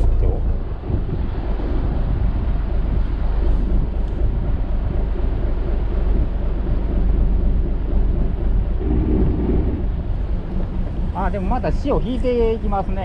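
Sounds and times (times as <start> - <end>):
boat engine running: 0.0 - 13.0
wind rumbling on microphone: 0.0 - 13.0.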